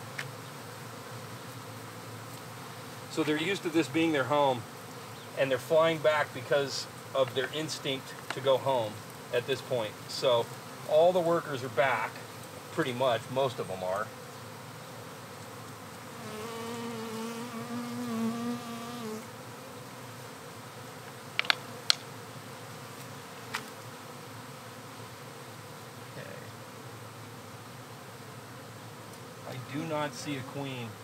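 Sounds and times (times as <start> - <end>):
single bee droning close: 0.0 - 31.0
swarm of bees buzzing: 0.0 - 31.0.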